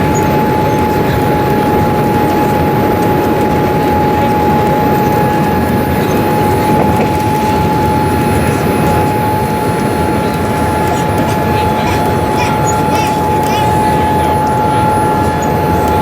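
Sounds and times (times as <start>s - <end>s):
airliner cabin noise: 0.0s - 16.0s
high-pitched cabin hum: 0.0s - 16.0s.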